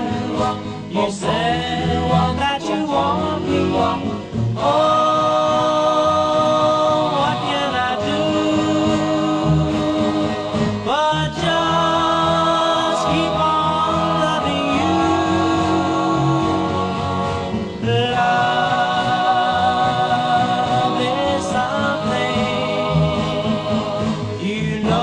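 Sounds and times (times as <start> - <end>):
male vocal group singing harmony: 0.0 - 25.0.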